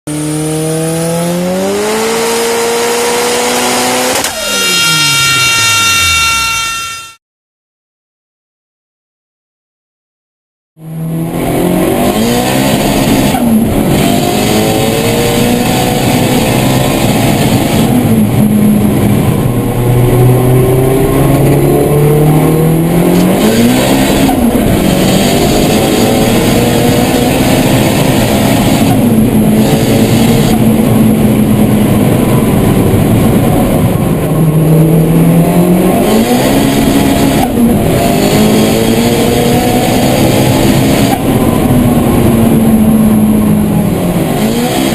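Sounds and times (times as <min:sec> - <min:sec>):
car engine accelerating hard: 0:00.1 - 0:06.0, 0:10.8 - 0:44.9.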